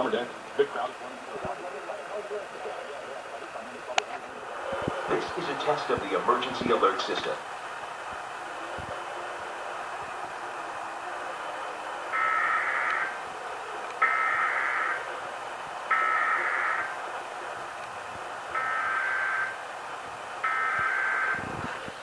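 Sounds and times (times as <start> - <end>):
broadcast hiss: 0.0 - 22.0.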